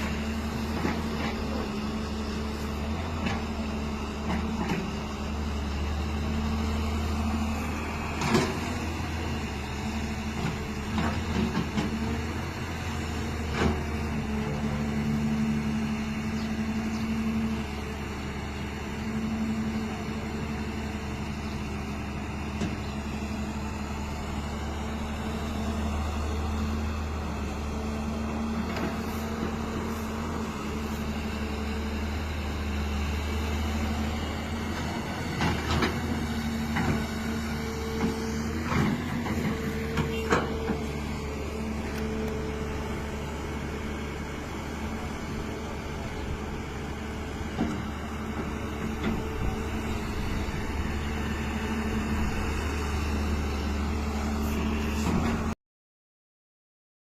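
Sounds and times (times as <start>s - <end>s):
diesel engine running: 0.0s - 55.6s.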